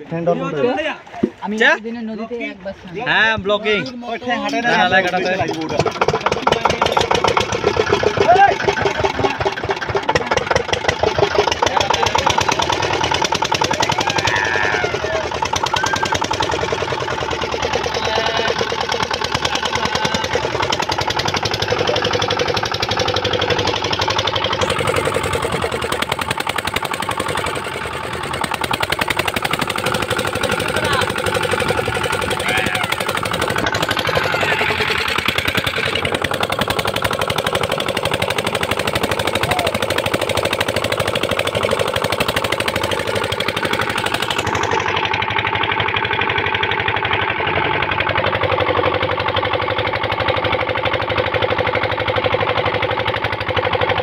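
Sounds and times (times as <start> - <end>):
motorboat engine knocking: 3.1 - 54.0.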